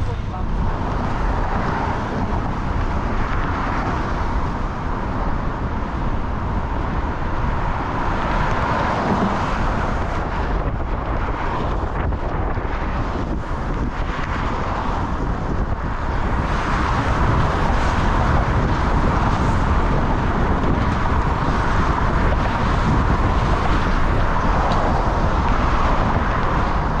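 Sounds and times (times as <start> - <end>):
loud rushing noise with rumble: 0.0 - 27.0.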